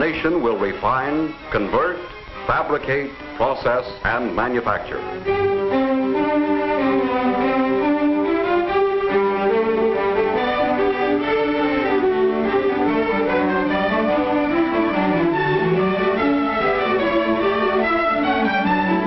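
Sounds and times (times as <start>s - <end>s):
orchestral string music: 0.0s - 19.0s.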